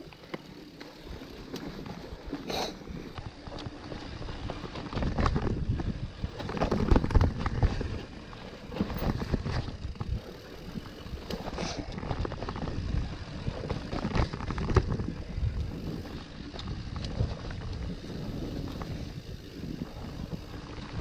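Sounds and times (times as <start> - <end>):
bike knocking and rattling: 0.0 - 21.0
bike tyres rumbling on dirt: 0.0 - 21.0.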